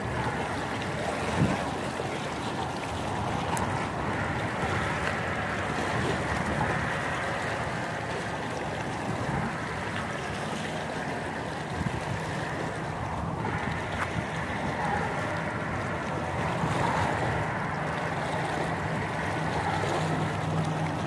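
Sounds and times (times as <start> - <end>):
small waves washing against rocks: 0.0 - 21.0
wind rumbling on microphone: 0.0 - 21.0.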